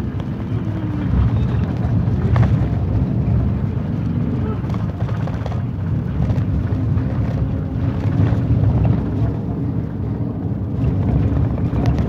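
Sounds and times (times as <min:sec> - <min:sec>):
car driving rumble: 0:00.0 - 0:12.0
wind buffeting microphone: 0:00.0 - 0:12.0.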